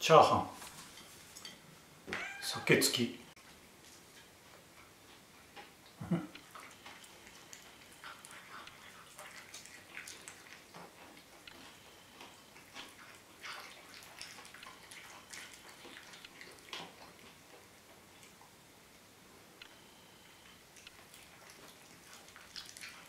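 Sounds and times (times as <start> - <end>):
cat chewing and lapping food: 3.8 - 23.0.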